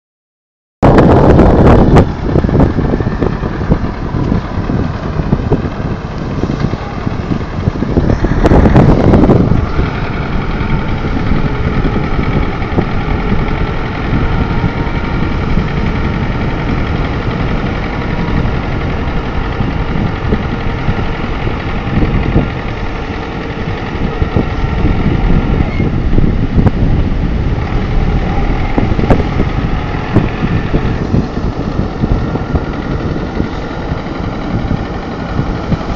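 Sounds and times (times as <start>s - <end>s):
tractor engine running: 0.8s - 35.9s.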